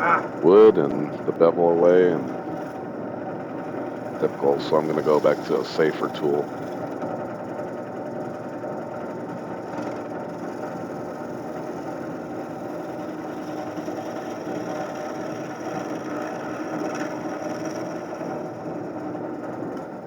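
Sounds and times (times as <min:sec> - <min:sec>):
wood lathe humming: 0:00.0 - 0:20.0.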